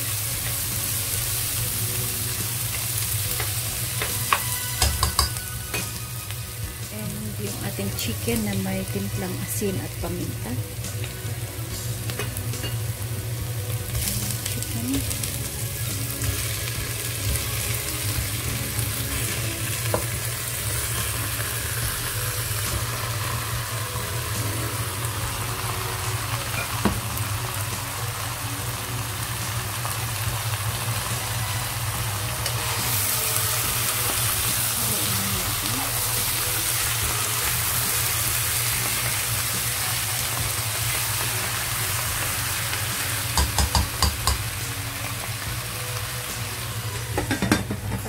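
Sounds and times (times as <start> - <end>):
food sizzling in oil: 0.0 - 48.0.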